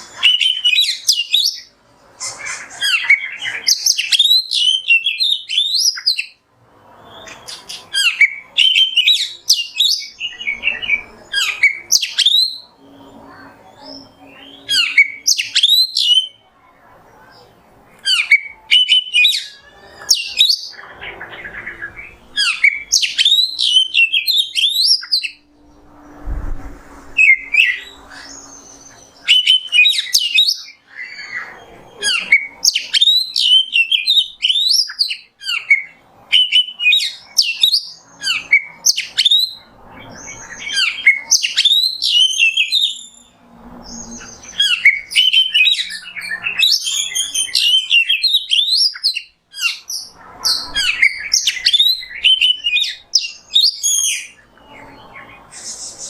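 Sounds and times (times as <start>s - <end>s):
songbird singing whistles and chirps: 0.0s - 16.5s, 17.2s - 56.0s.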